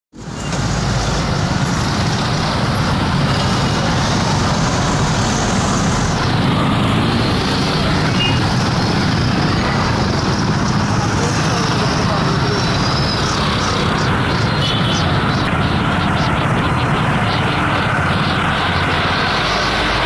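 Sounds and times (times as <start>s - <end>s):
motorcycle engines running: 0.2s - 20.0s.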